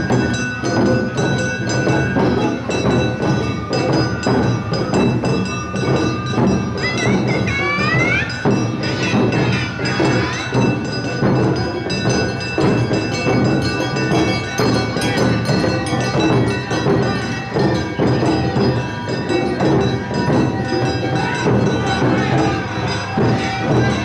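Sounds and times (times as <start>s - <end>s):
shamisen: 0.0s - 24.0s
taiko drums: 0.0s - 24.0s.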